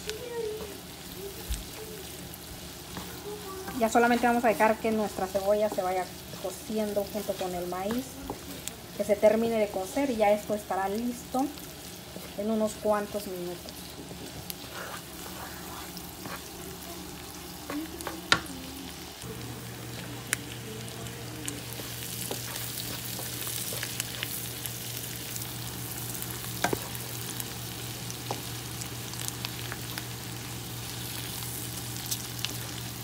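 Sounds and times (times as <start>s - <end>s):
food sizzling in a pan: 0.0s - 33.0s
low steady hum: 1.1s - 33.0s.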